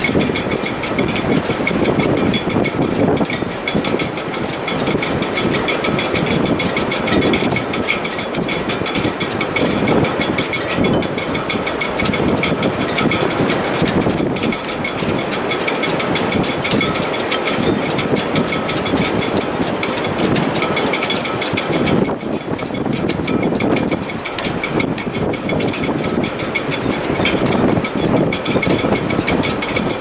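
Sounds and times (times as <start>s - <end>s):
high wind whistle: 0.0s - 30.0s
wind rushing in rigging: 0.0s - 30.0s.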